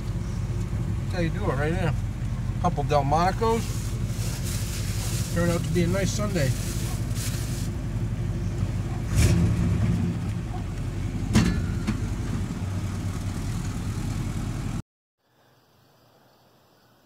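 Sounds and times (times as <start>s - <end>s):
truck engine running: 0.0s - 14.8s.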